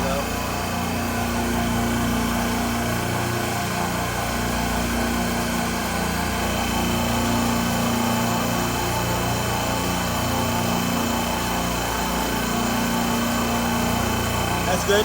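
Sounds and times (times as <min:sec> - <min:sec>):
refrigeration compressors humming: 0:00.0 - 0:15.0.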